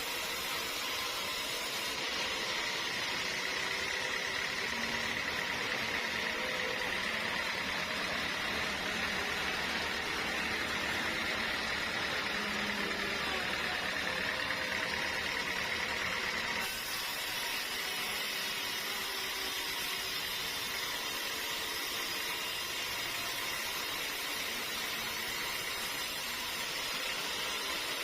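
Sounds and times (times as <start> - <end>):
sawmill machinery hissing: 0.0 - 28.0.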